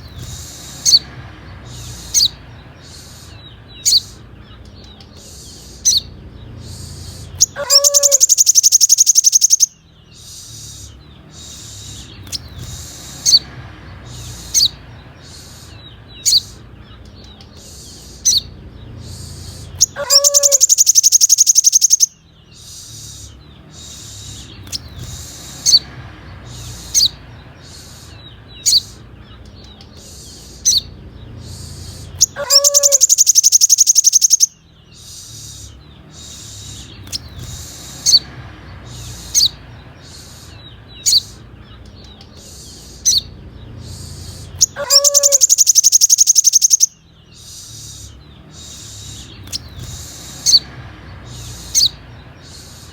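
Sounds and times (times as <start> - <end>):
bird trilling and chirping: 0.0 - 52.9.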